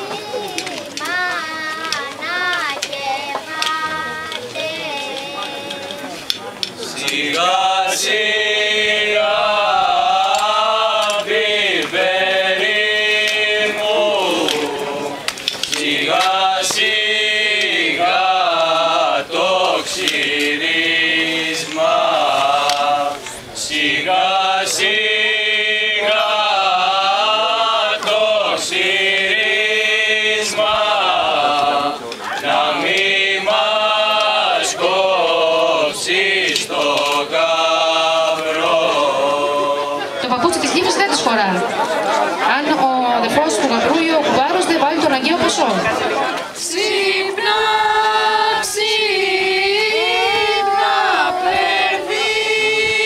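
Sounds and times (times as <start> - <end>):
men singing unaccompanied: 0.0 - 53.0.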